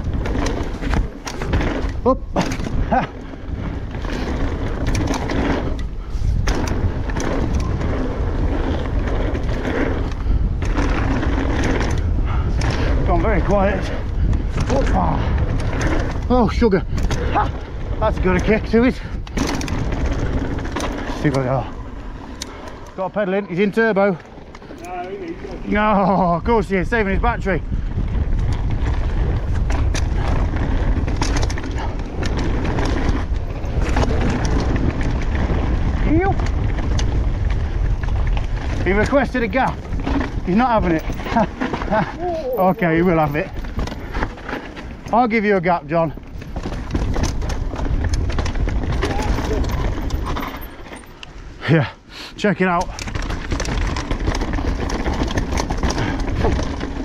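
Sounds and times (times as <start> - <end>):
bike clicks and rattles: 0.0 - 57.0
bike tyres rumbling on dirt: 0.0 - 57.0.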